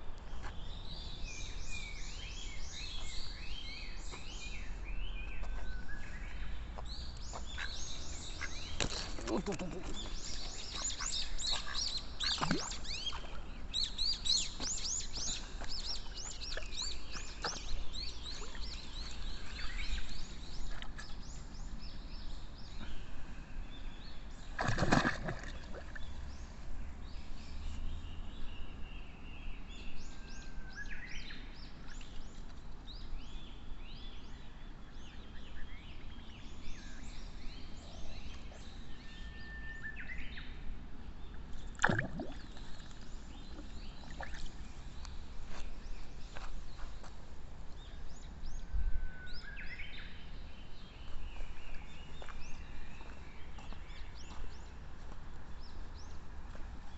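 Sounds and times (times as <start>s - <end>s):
small birds chirping: 0.2s - 40.6s, 41.2s - 48.7s, 49.3s - 56.9s.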